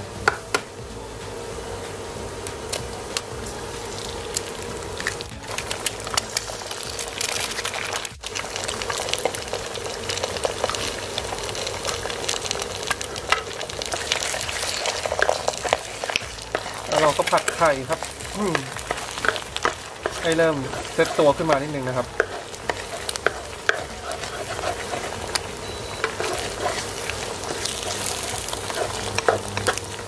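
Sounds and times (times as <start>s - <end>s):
eggs sizzling in hot oil: 1.2s - 30.0s
wooden spatula stirring eggs: 4.4s - 30.0s.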